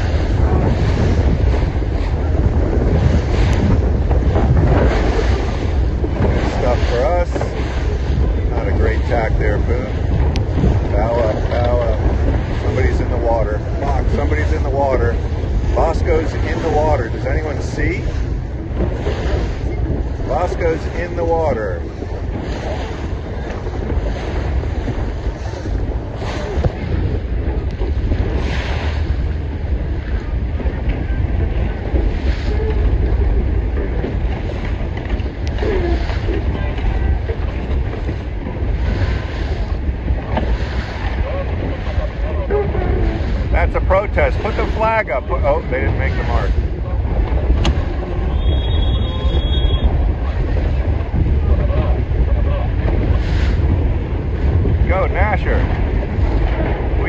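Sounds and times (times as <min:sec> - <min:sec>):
choppy water slapping boat: 0:00.0 - 0:57.0
wind buffeting microphone: 0:00.0 - 0:57.0.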